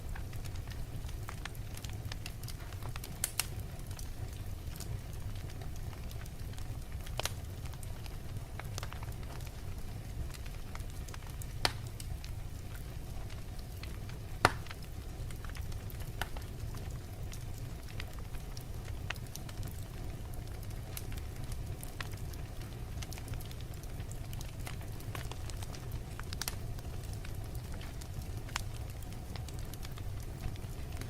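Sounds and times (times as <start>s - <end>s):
fire low rumble: 0.0s - 31.0s
wood crackling: 0.0s - 31.0s.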